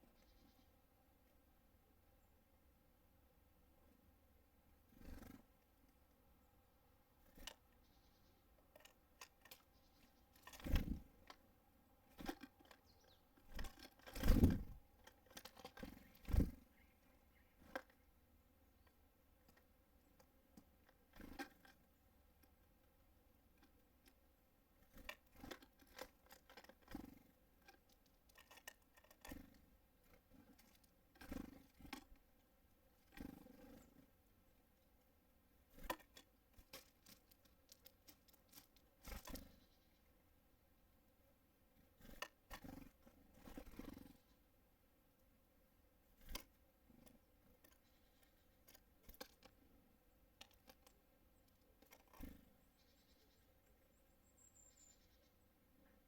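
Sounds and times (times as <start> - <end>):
birds pecking at feeder: 4.7 - 44.5, 46.0 - 56.0.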